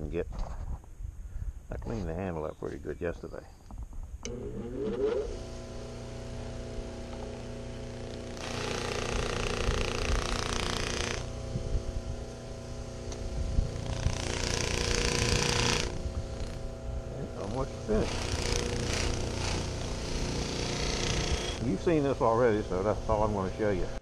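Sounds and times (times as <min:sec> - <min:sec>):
bench buffer motor running: 0:04.2 - 0:24.0.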